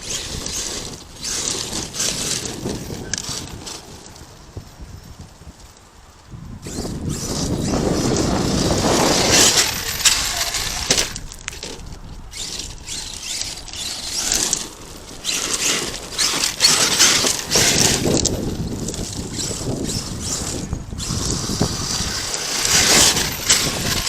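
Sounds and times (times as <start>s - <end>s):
rc truck driving on gravel: 0.0s - 24.0s.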